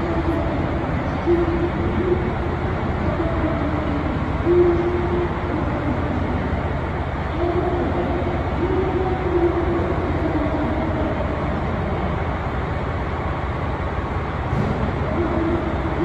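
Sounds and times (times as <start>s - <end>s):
diesel train engines droning: 0.0s - 16.0s.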